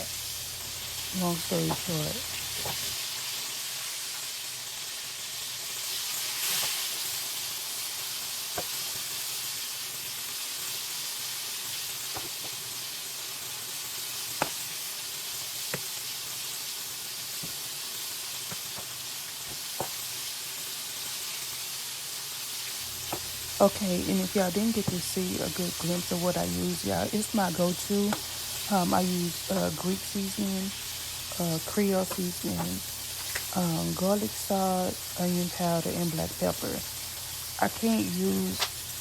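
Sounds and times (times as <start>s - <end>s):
meat sizzling in a skillet: 0.0s - 39.0s.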